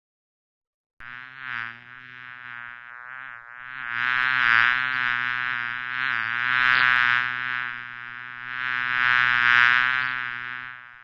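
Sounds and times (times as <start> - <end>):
insect buzzing: 1.0 - 11.0.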